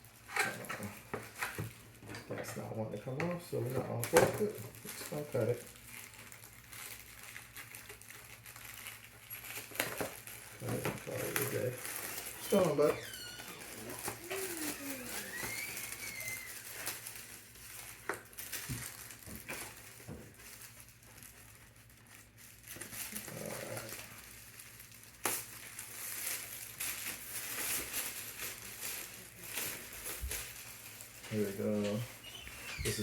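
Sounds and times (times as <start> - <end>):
plastic packaging crinkling: 0.0 - 33.0.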